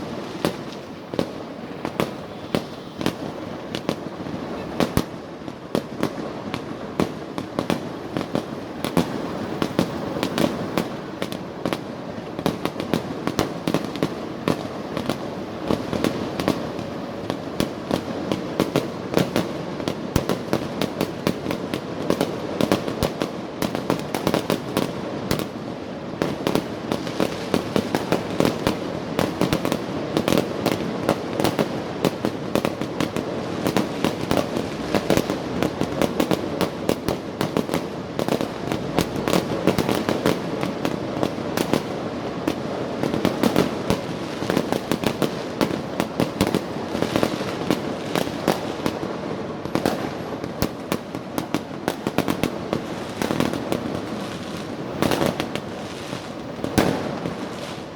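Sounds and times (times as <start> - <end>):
firecrackers crackling: 0.0 - 57.9.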